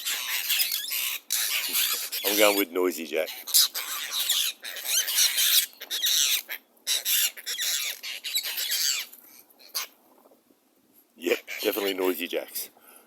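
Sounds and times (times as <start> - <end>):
birds squawking and chattering: 0.0 - 10.4, 11.2 - 12.7.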